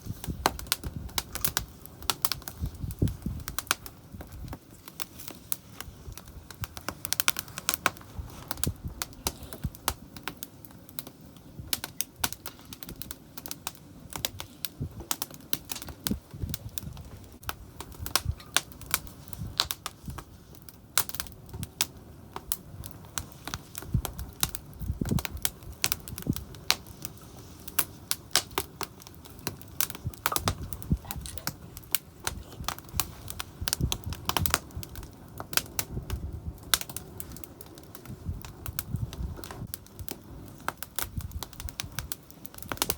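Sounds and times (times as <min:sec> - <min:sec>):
campfire crackling and popping: 0:00.0 - 0:42.9
low fire rumble: 0:00.0 - 0:42.9.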